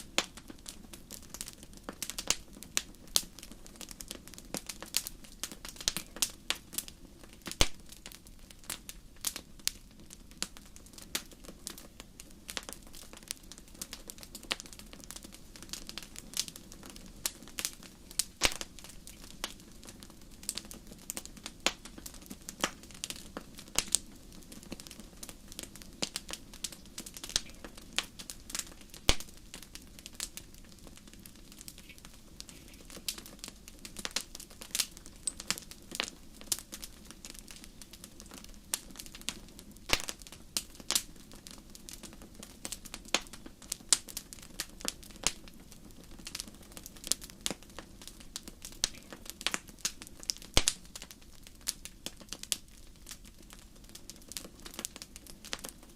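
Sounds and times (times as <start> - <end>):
fire popping: 0.0 - 55.9
wood fire crackling: 0.0 - 55.9.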